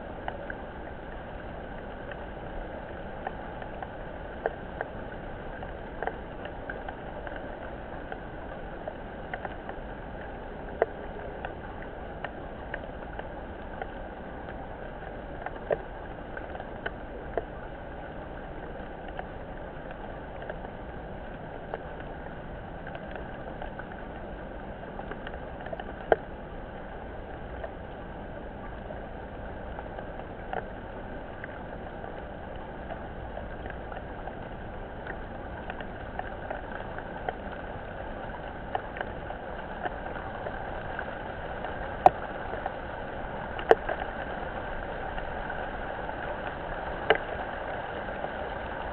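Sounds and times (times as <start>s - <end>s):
drops ticking near microphone: 0.0s - 48.9s
rain falling: 0.0s - 48.9s.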